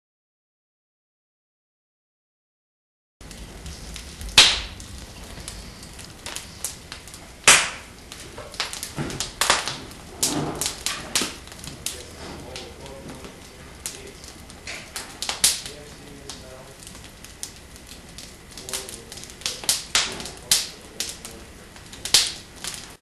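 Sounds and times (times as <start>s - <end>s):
wood fire crackling and popping: 3.2s - 23.0s.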